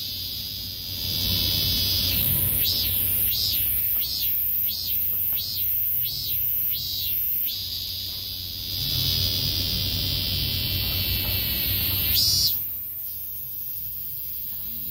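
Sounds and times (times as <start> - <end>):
cicada buzzing: 0.0 - 14.9.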